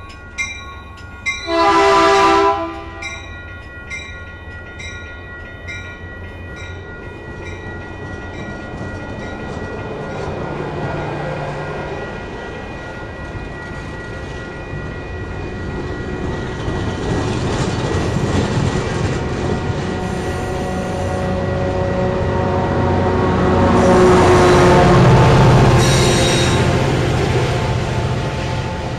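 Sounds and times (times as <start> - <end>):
crossing bell ringing: 0.0 - 28.9
diesel locomotive rumble: 0.0 - 28.9
train wheels on rails: 0.0 - 28.9.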